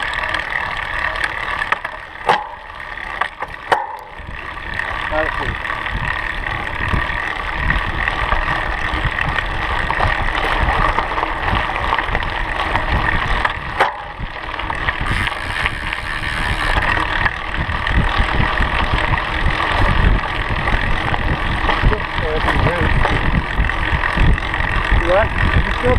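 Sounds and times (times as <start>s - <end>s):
bike tyres rolling on gravel: 0.0s - 25.9s
wind buffeting microphone: 4.1s - 25.9s.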